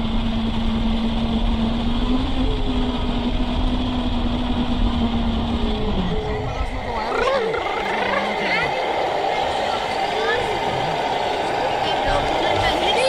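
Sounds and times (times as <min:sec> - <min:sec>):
model truck motor humming: 0:00.0 - 0:13.0.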